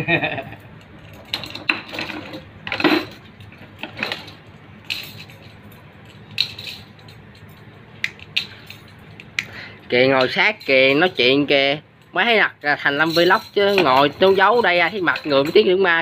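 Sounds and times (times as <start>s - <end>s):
metal spokes clinking: 0.8s - 16.0s.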